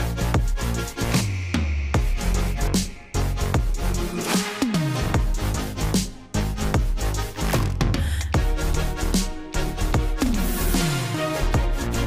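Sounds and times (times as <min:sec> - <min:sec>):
electronic dance music: 0:00.0 - 0:07.4, 0:08.4 - 0:12.0.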